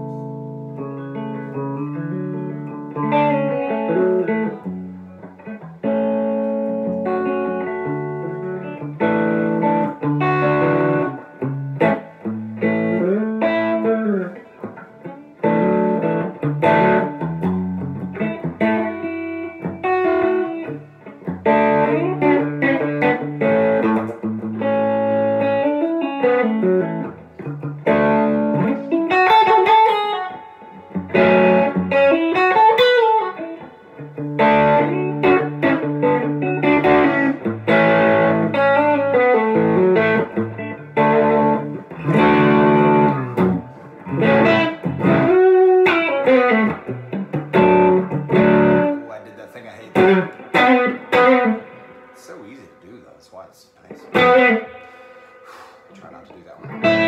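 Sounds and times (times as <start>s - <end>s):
electric guitar rock riffs: 0.0s - 52.8s, 53.8s - 57.0s.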